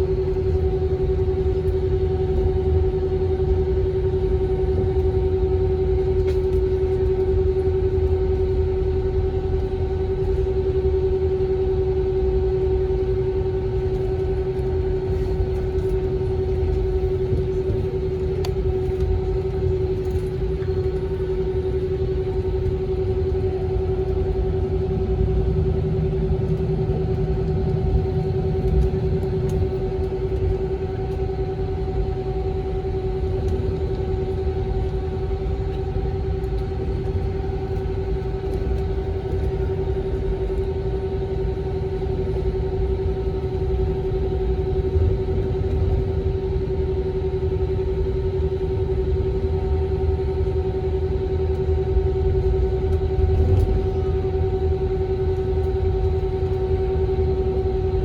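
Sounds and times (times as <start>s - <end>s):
aircraft cabin engine rumble: 0.0s - 58.0s
constant mid-pitched hum: 0.0s - 58.0s.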